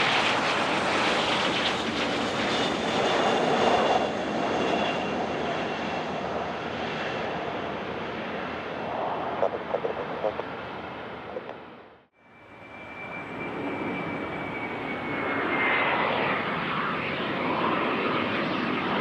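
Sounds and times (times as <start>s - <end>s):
high jet whine: 0.0s - 19.0s
jet passing by: 0.0s - 19.0s.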